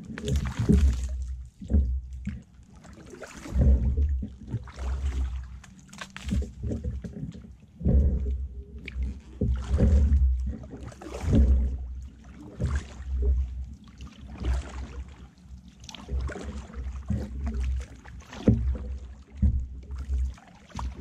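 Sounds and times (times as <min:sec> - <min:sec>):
paddle splash and drip: 0:00.0 - 0:21.0.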